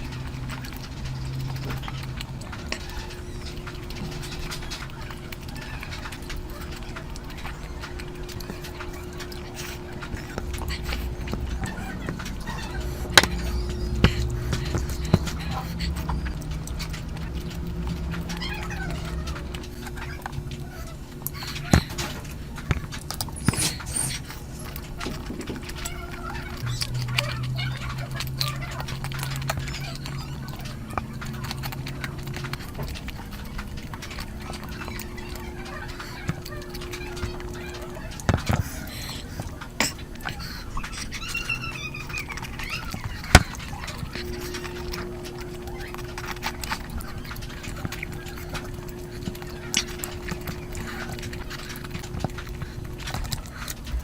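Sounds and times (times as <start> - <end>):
low hum: 0.0 - 54.0
person chewing: 0.0 - 54.0.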